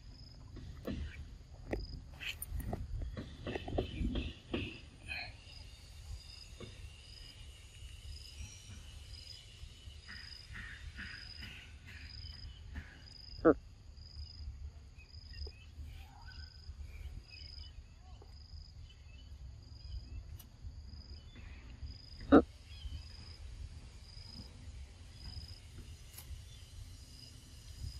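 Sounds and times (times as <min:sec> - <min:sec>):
insect chirping: 0:00.0 - 0:27.9.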